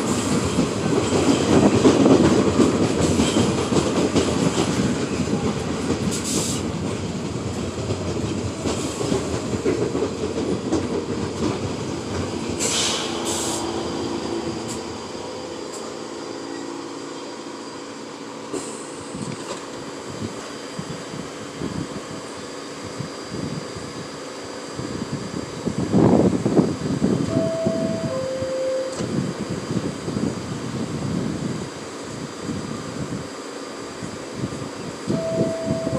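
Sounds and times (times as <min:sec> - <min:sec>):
subway train running on track: 0:00.0 - 0:35.9.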